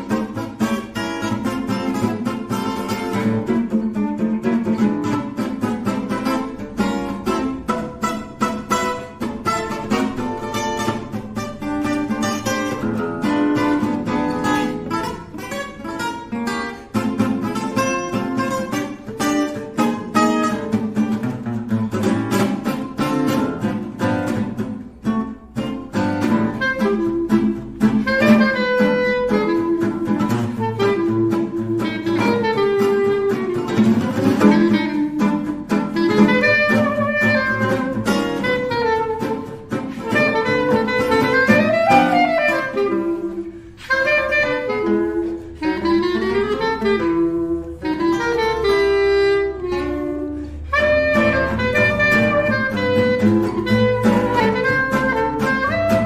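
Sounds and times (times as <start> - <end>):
plucked acoustic guitar music: 0.0 - 56.0.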